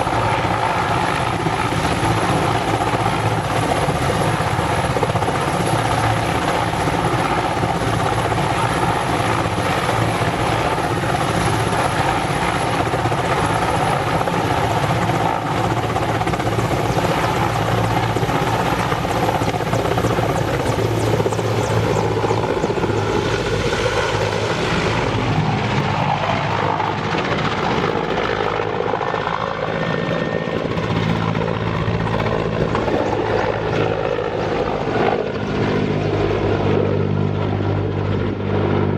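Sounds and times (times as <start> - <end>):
helicopter engines and rotor: 0.0 - 38.9
high turbine whine: 0.0 - 38.9.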